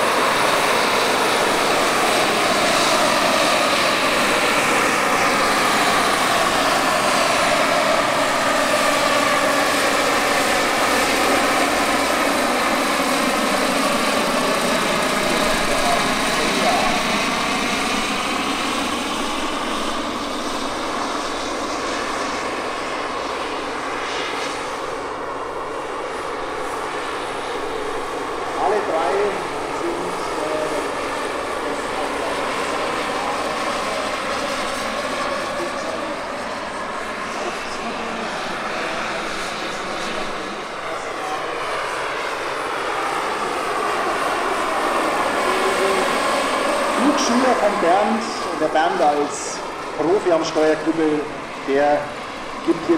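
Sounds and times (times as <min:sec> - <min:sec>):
helicopter rotor noise: 0:00.0 - 0:52.9
model gas turbine whine: 0:00.0 - 0:52.9.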